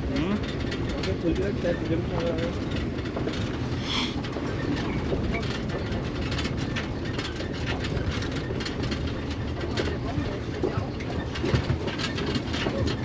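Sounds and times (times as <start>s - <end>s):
vehicle body rattling: 0.0s - 13.0s
vehicle engine and road rumble: 0.0s - 13.0s.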